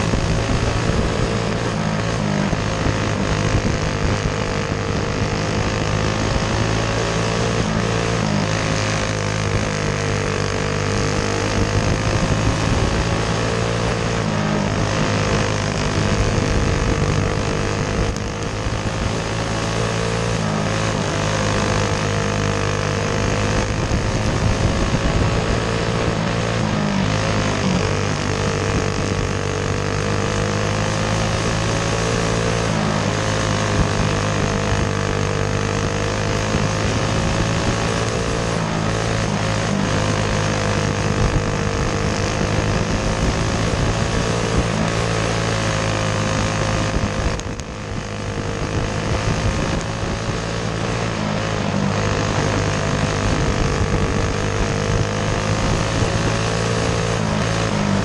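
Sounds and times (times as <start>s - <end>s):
racing kart engine at high revs: 0.0s - 58.0s.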